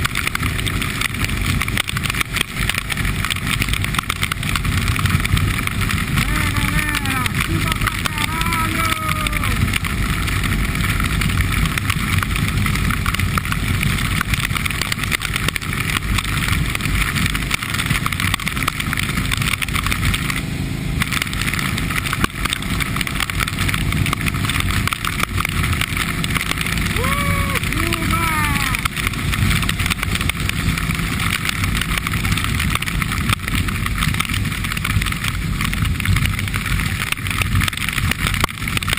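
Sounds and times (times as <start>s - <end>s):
motorcycle engine running: 0.0s - 38.9s
road noise: 0.0s - 38.9s
wind rushing on microphone: 0.0s - 38.9s.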